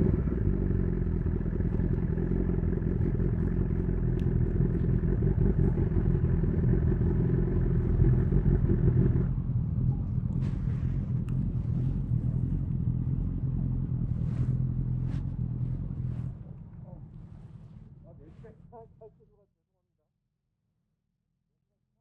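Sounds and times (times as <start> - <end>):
motorcycle engine running at low revs: 0.0 - 19.1.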